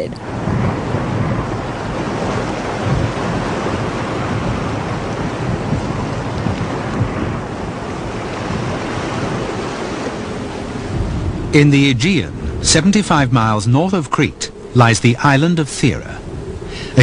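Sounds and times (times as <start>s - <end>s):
low rumble: 0.0s - 9.5s, 10.1s - 17.0s
steady rushing noise: 0.0s - 17.0s.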